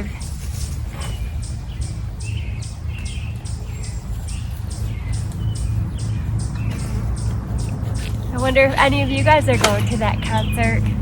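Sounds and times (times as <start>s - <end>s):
bird chirping: 0.0s - 11.0s
low steady rumble: 0.0s - 11.0s.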